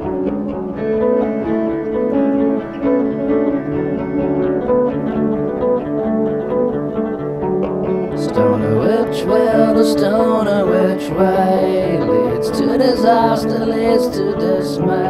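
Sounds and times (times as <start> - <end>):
plucked guitar notes: 0.0 - 15.0
sustained tones: 0.0 - 15.0.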